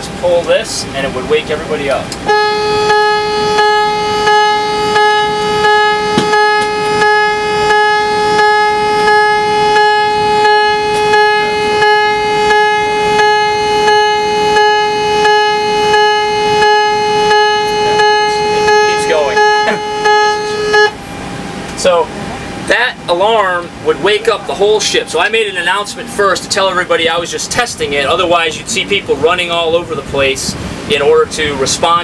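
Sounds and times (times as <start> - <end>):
pulsing alarm horn: 2.2 - 28.4.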